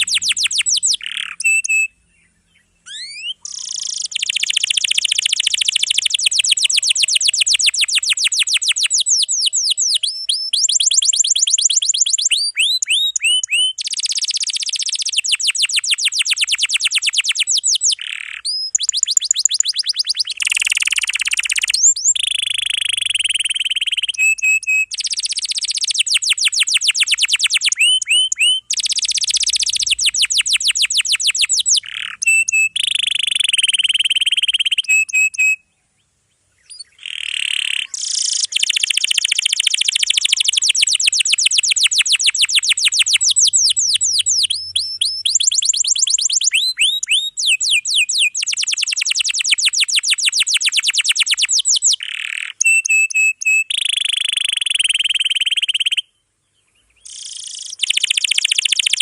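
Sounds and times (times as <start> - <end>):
canary singing long trills: 0.0 - 59.0.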